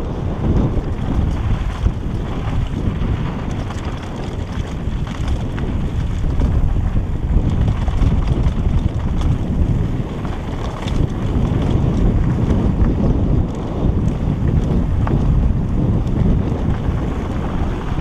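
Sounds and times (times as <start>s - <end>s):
bike clicking over stones: 0.0s - 18.0s
wind buffeting microphone: 0.0s - 18.0s.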